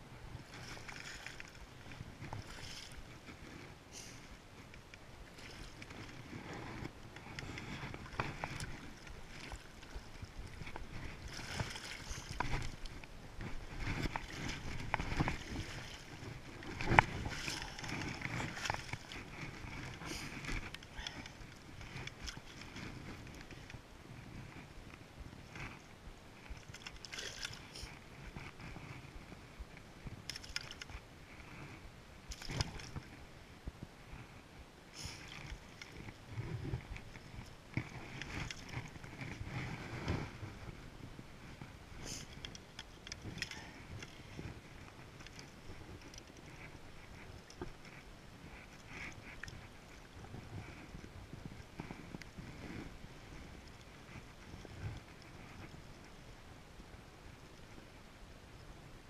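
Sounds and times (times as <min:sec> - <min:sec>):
water splashing and sloshing: 0:00.2 - 0:24.7, 0:25.5 - 0:29.4, 0:30.1 - 0:33.3, 0:34.9 - 0:56.2.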